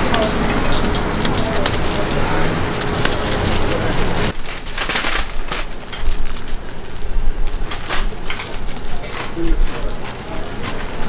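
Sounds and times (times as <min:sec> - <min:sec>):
plastic crinkling: 0:00.0 - 0:11.0
sticky dough handling noises: 0:00.0 - 0:11.0.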